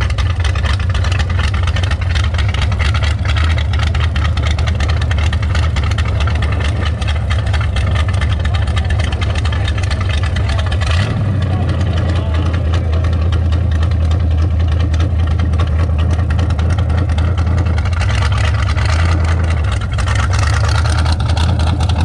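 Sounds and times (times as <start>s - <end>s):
car exhaust rumble: 0.0s - 22.0s.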